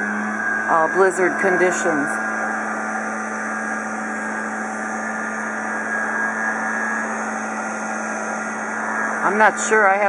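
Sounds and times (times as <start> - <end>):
leaf blower engine running: 0.0 - 10.0.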